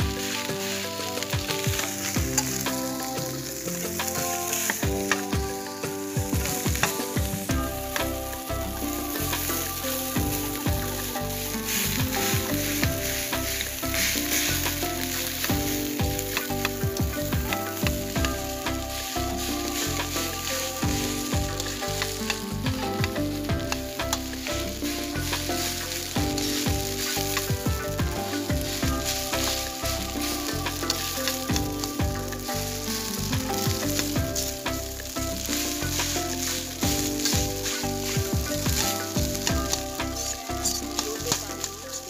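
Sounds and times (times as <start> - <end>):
rice sizzling in a wok: 0.0 - 42.0.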